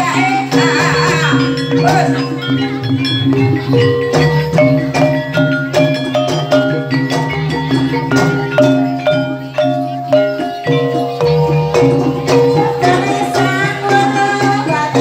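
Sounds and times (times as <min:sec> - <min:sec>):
gamelan music: 0:00.0 - 0:15.0.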